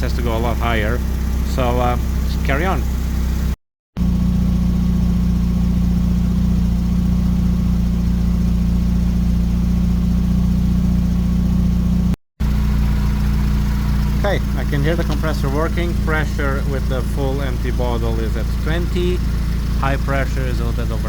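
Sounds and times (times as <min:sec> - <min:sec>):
air conditioning compressor running: 0:00.0 - 0:21.0
rotary engine idling: 0:00.0 - 0:21.0.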